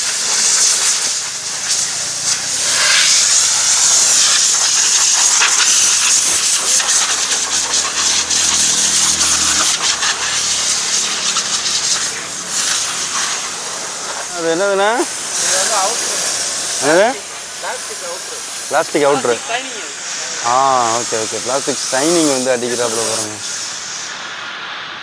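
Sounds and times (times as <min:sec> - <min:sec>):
compressed air blow gun hissing: 0:00.0 - 0:25.0.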